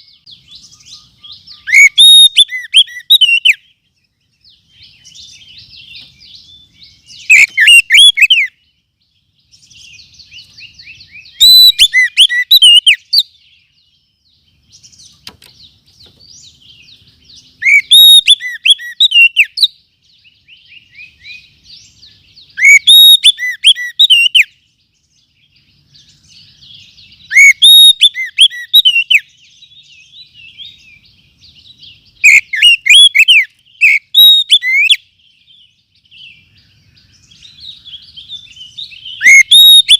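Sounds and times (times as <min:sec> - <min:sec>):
bird whistled song phrases: 0:00.0 - 0:15.3, 0:16.3 - 0:39.9
soft rapid bird twittering: 0:00.0 - 0:39.9.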